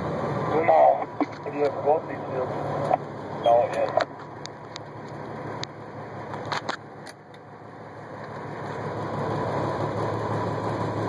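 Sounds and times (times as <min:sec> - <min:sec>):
truck diesel engine straining: 0:00.0 - 0:11.0.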